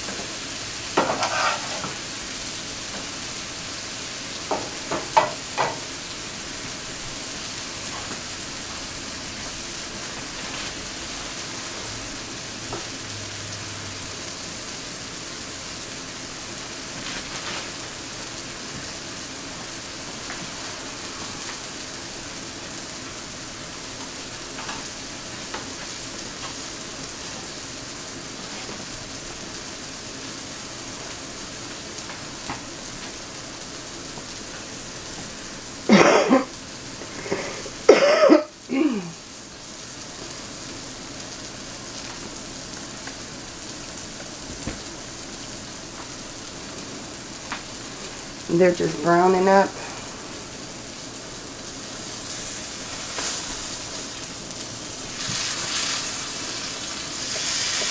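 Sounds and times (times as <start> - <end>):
sausage patties sizzling in a pan: 0.0 - 57.9.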